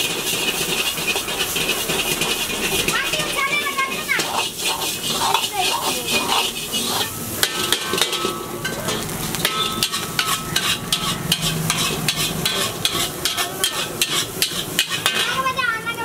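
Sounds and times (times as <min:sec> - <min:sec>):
metal spatula scraping wok: 0:00.0 - 0:15.7
hot pan sizzling: 0:00.0 - 0:16.0.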